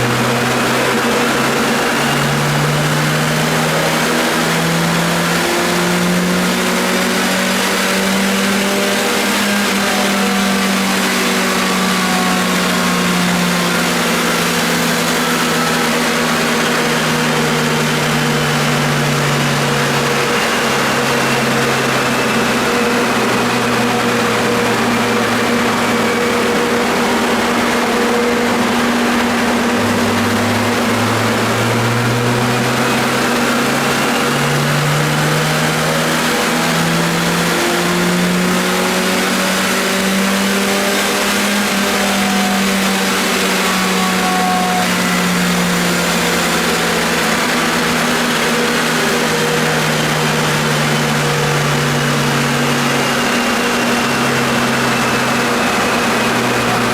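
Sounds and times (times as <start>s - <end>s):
car engine running under load: 0.0s - 56.9s
steady drone: 0.0s - 56.9s.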